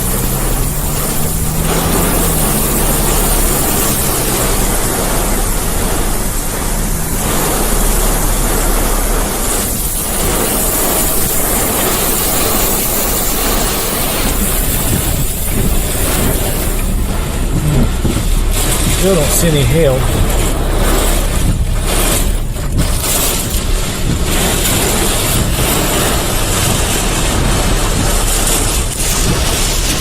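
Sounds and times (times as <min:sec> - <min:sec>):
heavy rain on a car: 0:00.0 - 0:30.0
low engine hum: 0:00.0 - 0:30.0
tyre hiss on wet road: 0:00.0 - 0:30.0.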